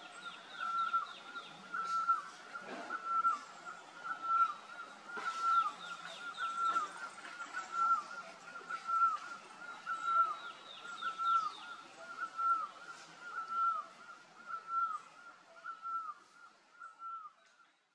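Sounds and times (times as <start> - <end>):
bird calling: 0.0 - 17.5.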